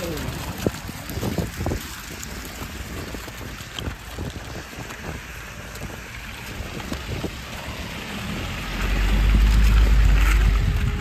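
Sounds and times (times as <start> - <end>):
footsteps on wet slush: 0.0 - 11.0
rain hiss: 0.0 - 11.0
wind buffeting microphone: 0.0 - 11.0.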